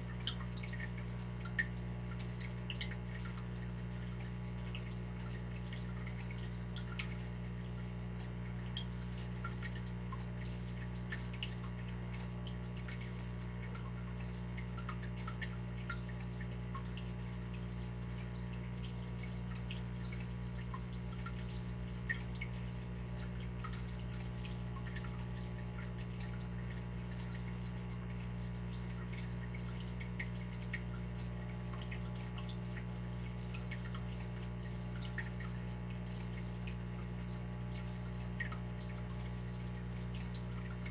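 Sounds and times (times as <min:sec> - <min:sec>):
water dripping: 0:00.0 - 0:40.9.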